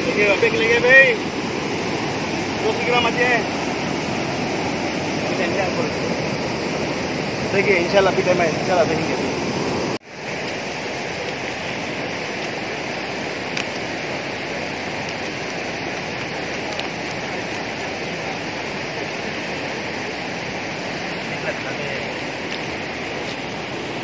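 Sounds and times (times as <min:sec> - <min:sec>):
water rushing over a spillway: 0:00.0 - 0:24.0.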